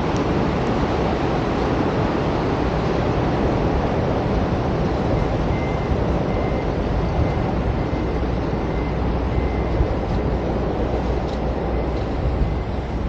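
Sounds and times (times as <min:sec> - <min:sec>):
street traffic rumble: 0:00.0 - 0:13.0
wind rushing over microphone: 0:00.0 - 0:13.0.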